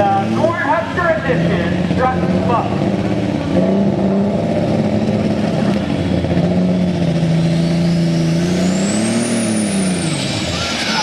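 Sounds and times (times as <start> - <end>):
tractor engine revving loudly: 0.0 - 11.0.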